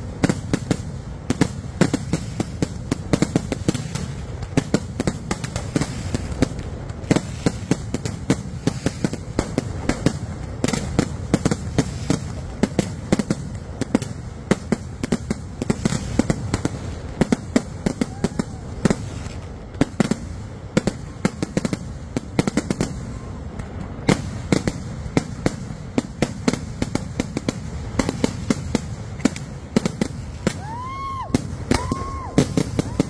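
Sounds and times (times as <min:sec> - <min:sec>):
firecracker bangs: 0:00.0 - 0:33.0.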